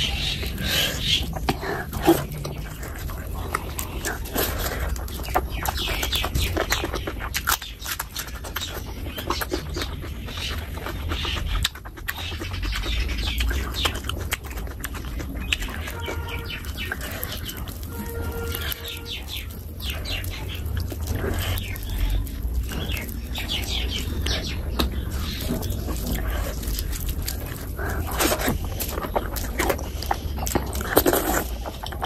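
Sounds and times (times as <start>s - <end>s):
wet chewing and lip-smacking: 0.0s - 32.0s.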